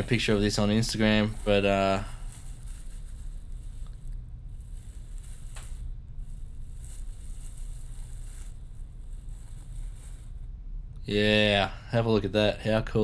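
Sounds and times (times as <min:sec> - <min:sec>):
bubble wrap crinkling: 0:00.0 - 0:10.5.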